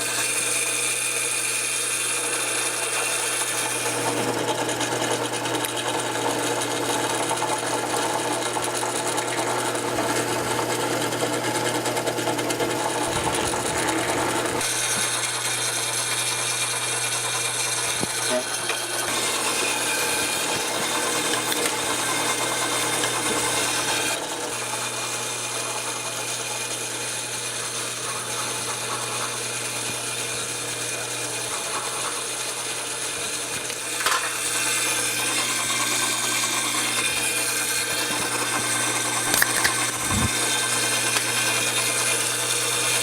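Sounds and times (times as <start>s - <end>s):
drill press drilling into wood: 0.0s - 43.0s.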